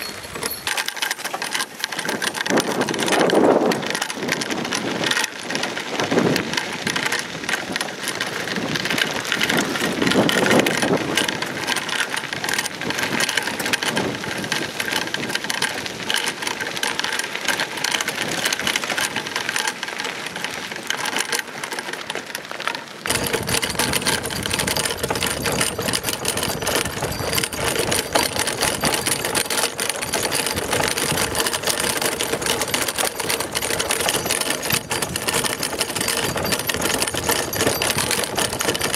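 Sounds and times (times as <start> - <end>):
cart wheels rattling on gravel: 0.0 - 38.9.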